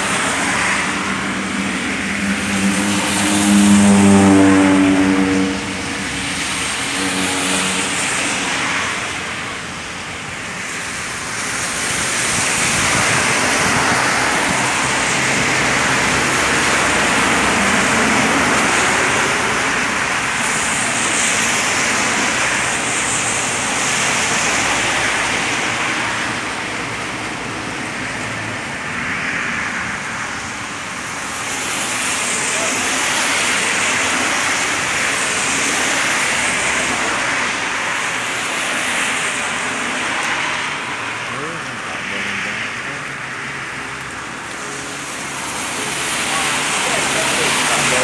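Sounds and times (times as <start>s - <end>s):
vehicle road rushing noise: 0.0s - 48.0s.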